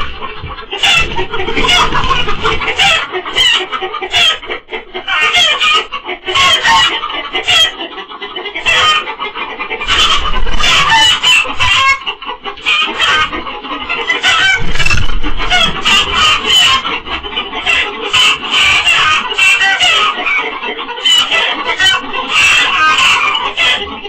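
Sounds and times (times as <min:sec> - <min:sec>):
chickens cackling and squawking: 0:00.0 - 0:24.0.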